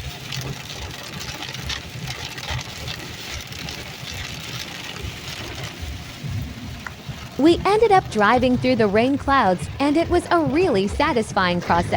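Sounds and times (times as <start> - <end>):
heavy rain on a car: 0.0 - 11.9
road and engine rumble: 0.0 - 11.9.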